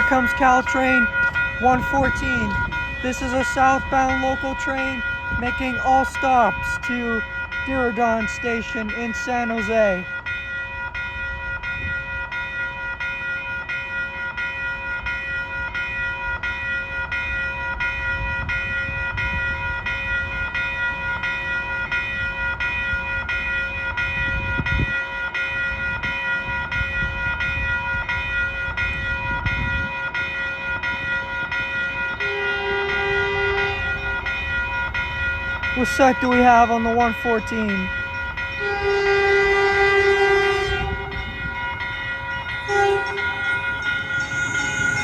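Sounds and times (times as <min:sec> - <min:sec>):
low rumble of train wheels: 0:00.0 - 0:45.0
train warning bell ringing: 0:00.0 - 0:45.0.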